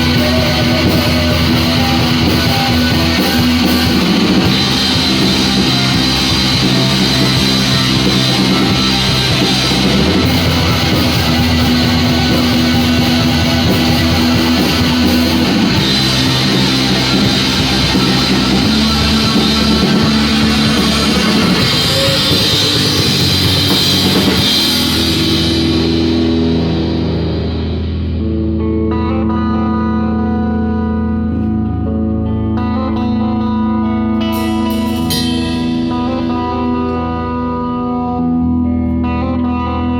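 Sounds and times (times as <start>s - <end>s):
rock music: 0.0s - 39.9s
sustained guitar notes ringing: 0.0s - 39.9s.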